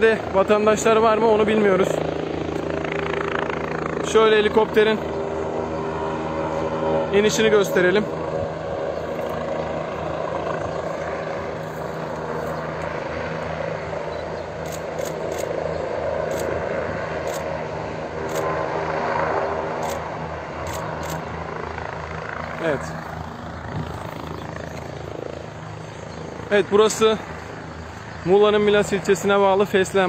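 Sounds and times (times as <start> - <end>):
helicopter rotor droning: 0.0 - 30.0.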